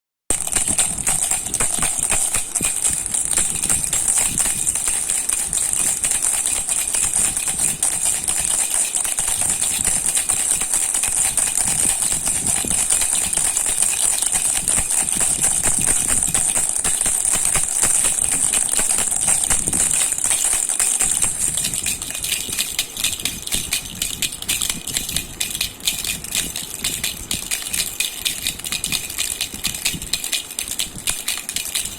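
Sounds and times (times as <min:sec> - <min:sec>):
baby rattle shaken: 0:00.3 - 0:31.9.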